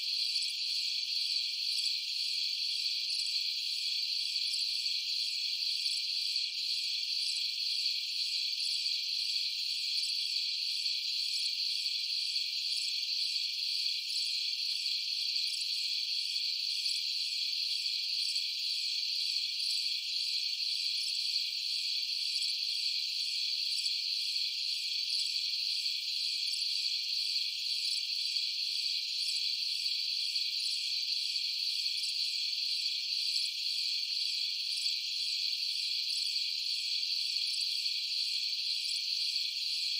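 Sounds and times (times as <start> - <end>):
high-pitched insect chorus trilling: 0.0 - 39.9.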